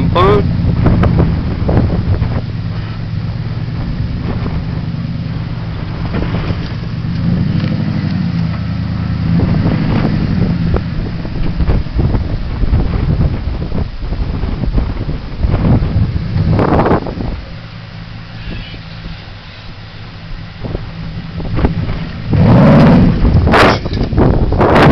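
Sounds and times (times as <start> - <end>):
truck engine droning: 0.0 - 24.9
wind noise on microphone: 0.0 - 24.9.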